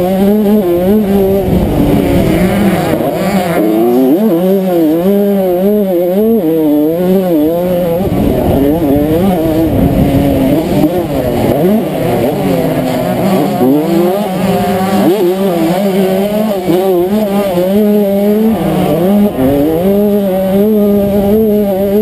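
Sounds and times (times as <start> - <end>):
two-stroke motorcycle engine revving: 0.0 - 22.0.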